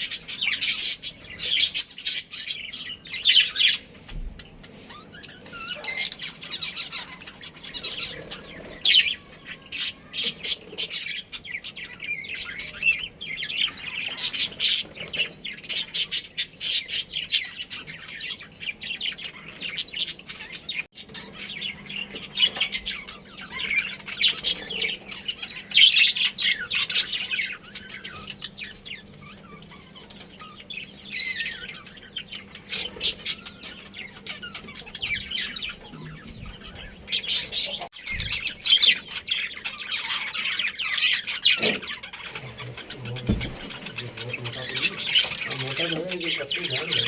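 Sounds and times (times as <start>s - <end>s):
budgerigars chirping and chattering: 0.0s - 47.0s.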